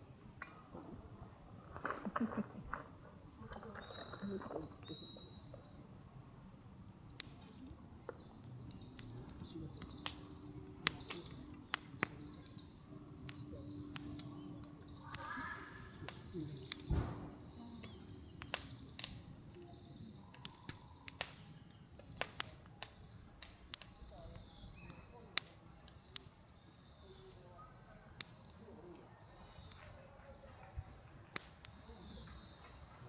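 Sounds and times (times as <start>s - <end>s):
faint bird chirps: 3.4s - 6.0s, 8.1s - 33.0s.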